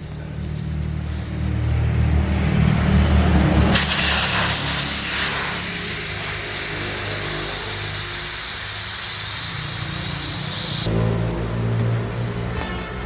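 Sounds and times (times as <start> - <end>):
loud hissing spray: 0.0 - 10.9
engine running: 0.0 - 12.7.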